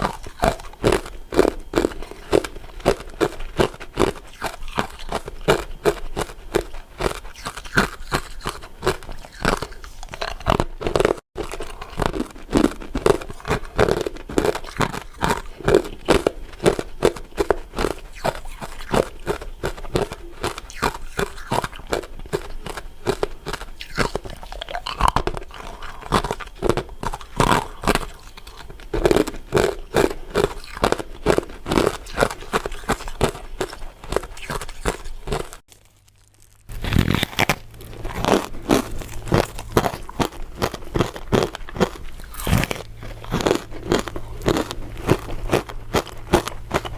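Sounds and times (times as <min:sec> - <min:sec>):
crunching and chewing ice: 0:00.0 - 0:46.9.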